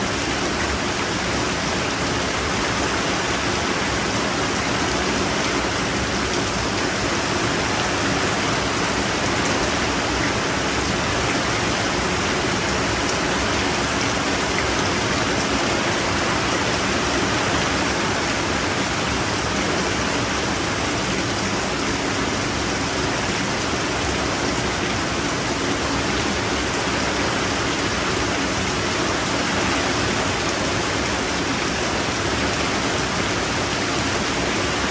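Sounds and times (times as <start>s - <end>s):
heavy rain hiss: 0.0s - 34.9s.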